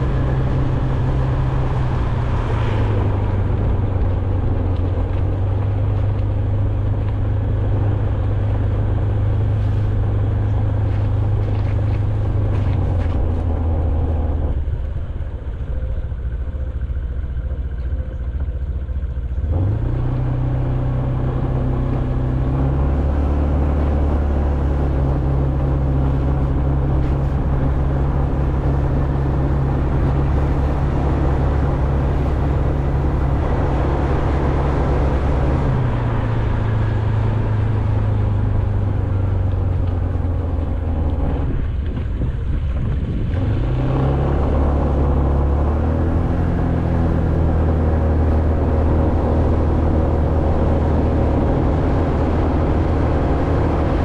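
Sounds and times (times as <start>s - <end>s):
vehicle engine drone with road noise: 0.0s - 54.0s.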